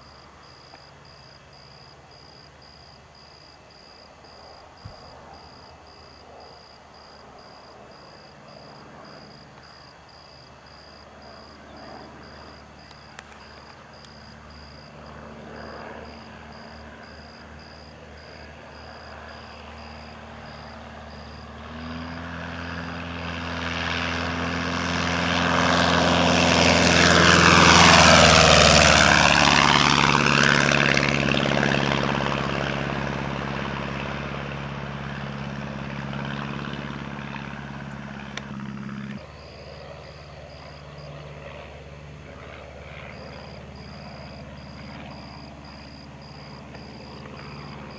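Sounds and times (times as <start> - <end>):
airplane passing whoosh: 0.0 - 47.9
propeller airplane engine drone: 0.0 - 47.9.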